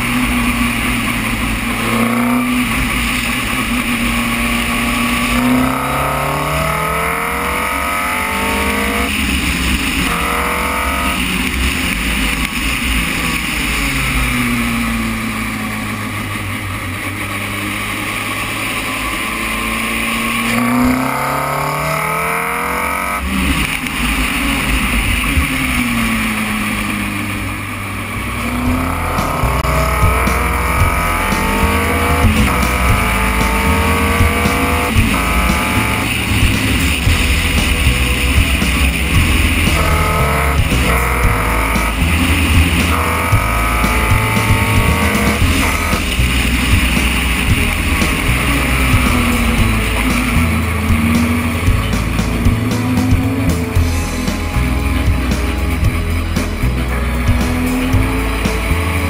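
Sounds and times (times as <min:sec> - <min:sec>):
race car engine shifting gears: 0:00.0 - 0:59.0.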